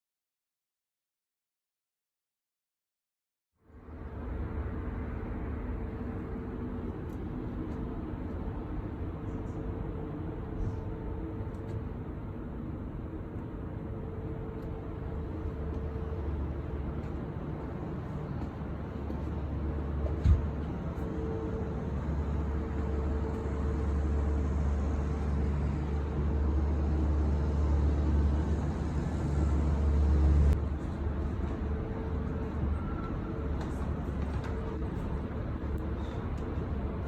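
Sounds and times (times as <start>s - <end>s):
sawmill machinery humming: 4.2s - 36.9s.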